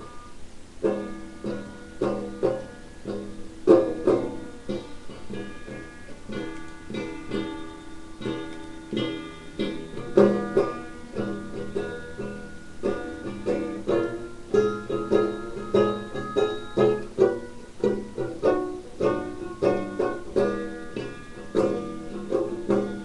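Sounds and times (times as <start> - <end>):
plucked string instrument: 0.0 - 23.0.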